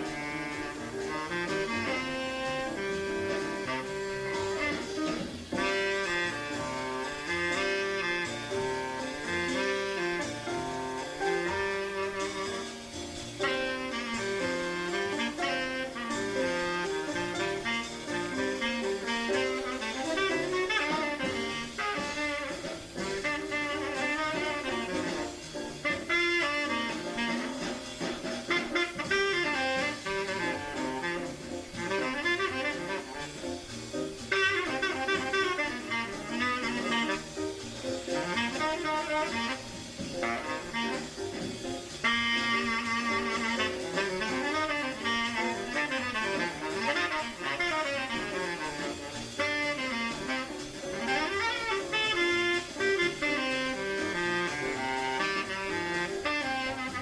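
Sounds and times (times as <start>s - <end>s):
bass and rhythm section: 0.0s - 57.0s
tenor saxophone improvising: 0.0s - 57.0s.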